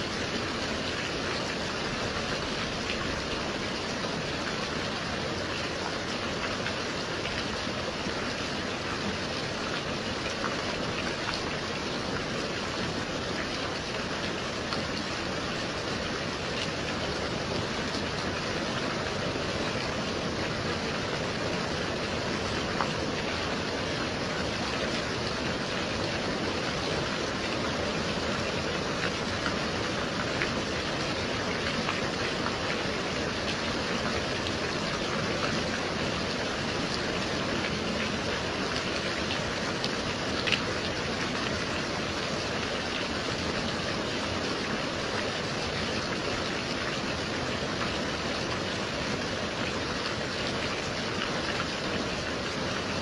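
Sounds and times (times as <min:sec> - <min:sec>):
gentle rain falling: 0:00.0 - 0:53.0.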